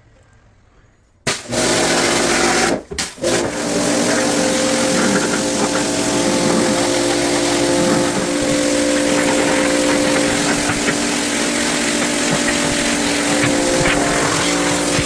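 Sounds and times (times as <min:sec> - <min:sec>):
motor-driven machine running: 0:01.5 - 0:15.0.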